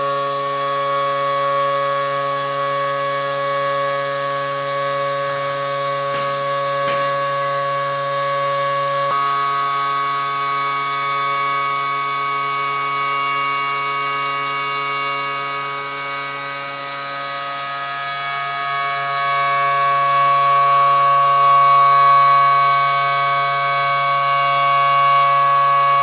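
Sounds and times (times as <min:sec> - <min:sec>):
router spindle whining: 0:00.0 - 0:26.0.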